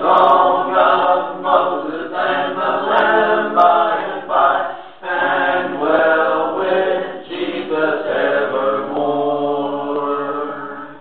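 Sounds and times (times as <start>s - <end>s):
slow devotional singing: 0.0s - 11.0s.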